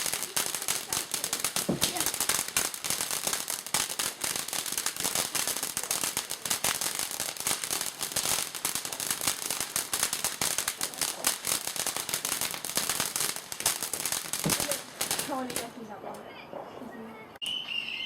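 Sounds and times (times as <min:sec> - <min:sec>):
firework crackling: 0:00.0 - 0:16.0.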